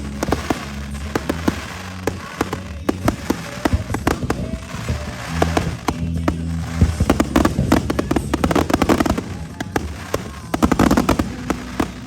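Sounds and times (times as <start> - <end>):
fireworks bangs and crackles: 0.0 - 12.0
show music with bass notes: 0.0 - 12.0.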